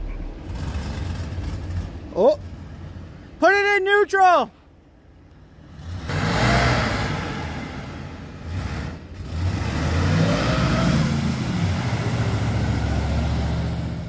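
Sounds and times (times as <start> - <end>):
truck engine revving: 0.0 - 3.3, 5.6 - 14.0
tires churning through mud: 0.0 - 3.8, 5.5 - 14.0.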